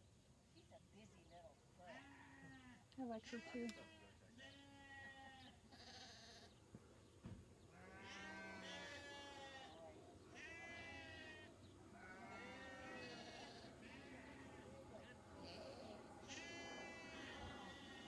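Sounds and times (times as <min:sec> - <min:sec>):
sheep bleating: 0:01.9 - 0:06.6, 0:07.7 - 0:18.0.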